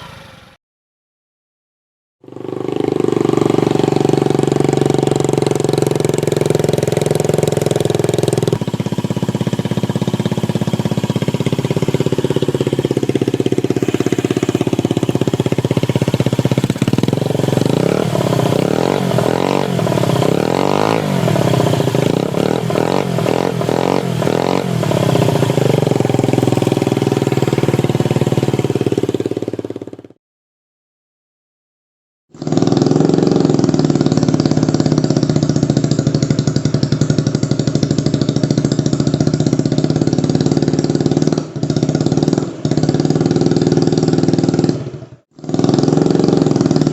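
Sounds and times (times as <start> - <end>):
scooter engine revving: 0.0 - 0.6, 2.2 - 30.2, 32.3 - 46.9.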